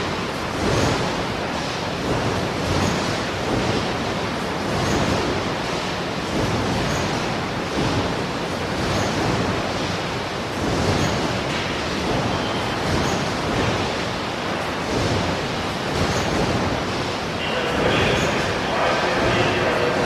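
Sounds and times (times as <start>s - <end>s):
steady machinery noise: 0.0s - 20.0s.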